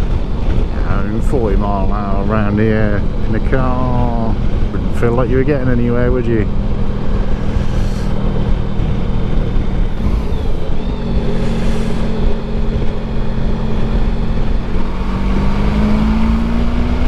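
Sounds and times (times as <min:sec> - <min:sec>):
motorcycle engine running: 0:00.0 - 0:16.6
wind and road noise: 0:00.0 - 0:17.0.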